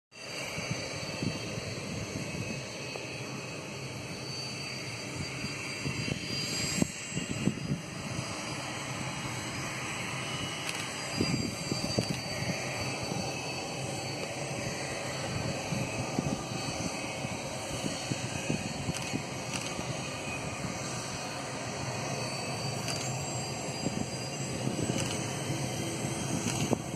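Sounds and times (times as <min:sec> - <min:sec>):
distant jet engines whining: 0:00.2 - 0:26.9
wind buffeting microphone: 0:00.4 - 0:02.8, 0:05.1 - 0:23.0, 0:23.6 - 0:26.9.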